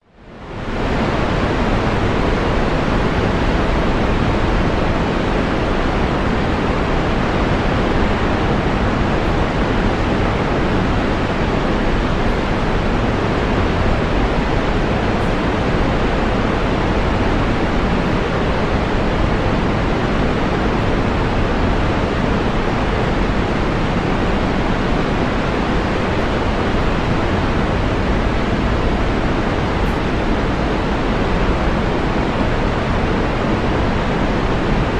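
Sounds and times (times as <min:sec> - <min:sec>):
waterfall rushing: 0:00.5 - 0:34.9.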